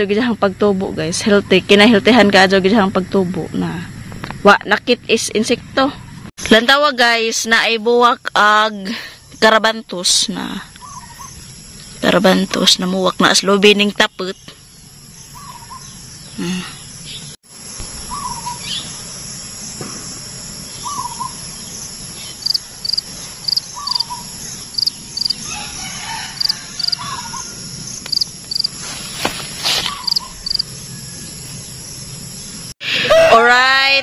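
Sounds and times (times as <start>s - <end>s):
cricket drone: 0.0s - 32.8s.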